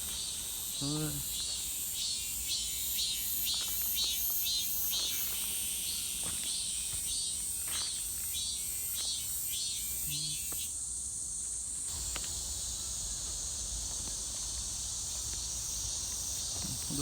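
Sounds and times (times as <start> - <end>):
cicadas singing: 0.0 - 17.0.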